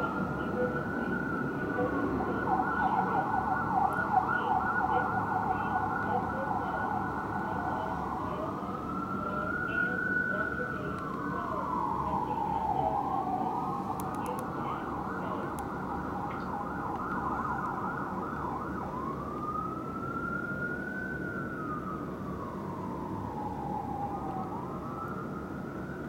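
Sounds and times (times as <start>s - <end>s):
fire engine siren: 0.0s - 26.0s
low city rumble: 0.0s - 26.0s.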